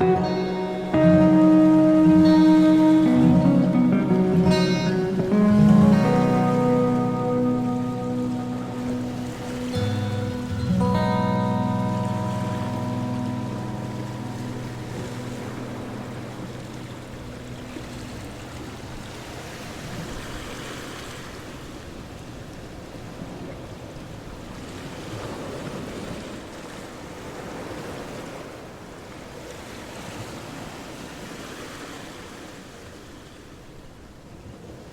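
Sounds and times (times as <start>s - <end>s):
water surging and washing: 0.0s - 33.2s.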